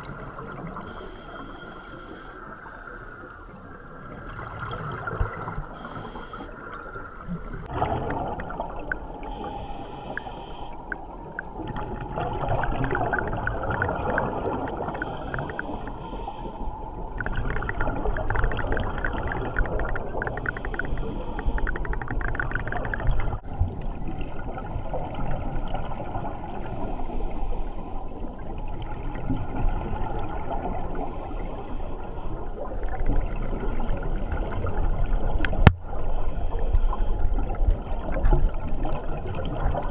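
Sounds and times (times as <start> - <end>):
low underwater wash: 0.0 - 39.9
underwater bubbles gurgling: 0.0 - 39.9.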